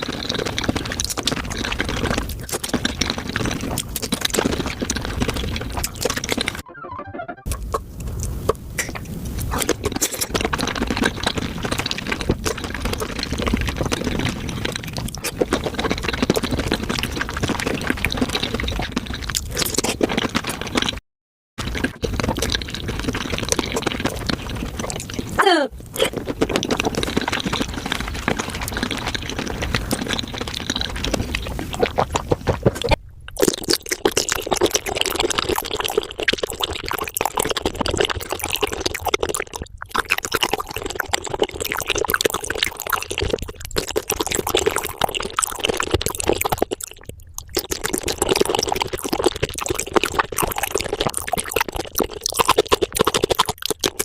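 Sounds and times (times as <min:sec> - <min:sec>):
sped-up wet chewing and slurping: 0:00.0 - 0:06.6, 0:07.5 - 0:21.0, 0:21.6 - 0:54.0.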